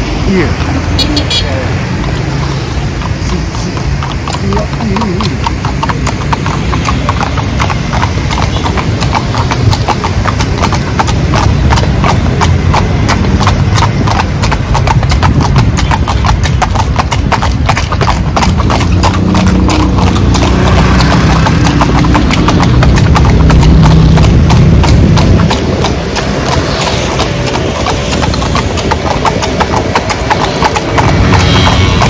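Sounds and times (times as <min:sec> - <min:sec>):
hooves clip-clopping on pavement: 0:00.0 - 0:32.0
carriage rumble: 0:01.7 - 0:32.0.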